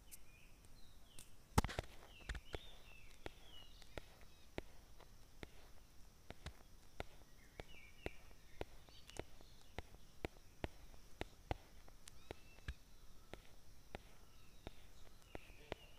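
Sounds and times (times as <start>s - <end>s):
faint bird-like chirps: 0.0s - 15.9s
steady high hiss: 0.0s - 15.9s
irregular sharp clicks: 0.1s - 15.9s.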